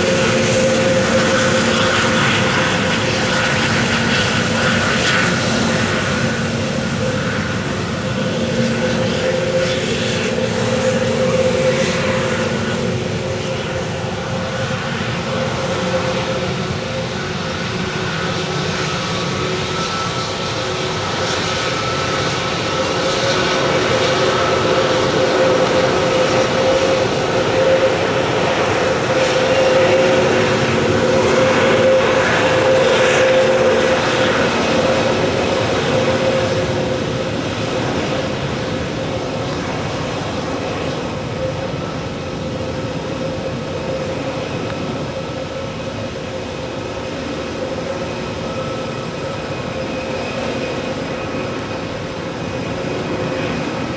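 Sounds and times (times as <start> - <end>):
jet engines humming: 0.0 - 53.9.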